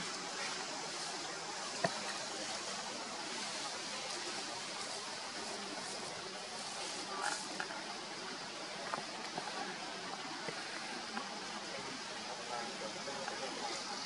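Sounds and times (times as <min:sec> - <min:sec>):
steady hissing noise: 0:00.0 - 0:14.0.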